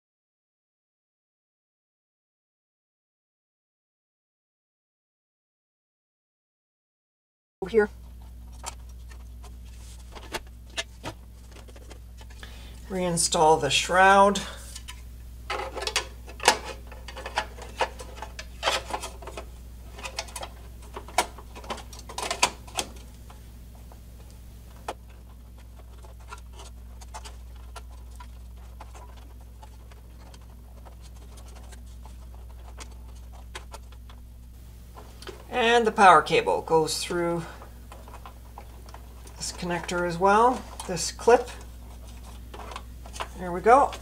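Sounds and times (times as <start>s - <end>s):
steady low hum: 7.6s - 44.0s.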